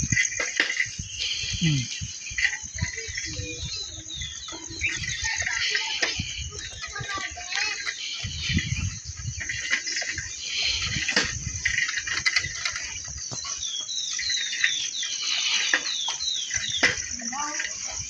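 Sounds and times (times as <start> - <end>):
bird chirping: 0.0 - 18.0
insects chirring: 0.0 - 18.0.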